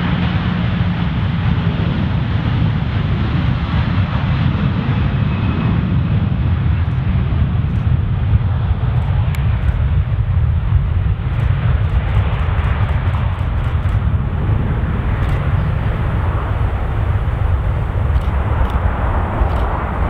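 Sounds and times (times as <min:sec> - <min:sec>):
jet airliner engines at takeoff: 0:00.0 - 0:20.0.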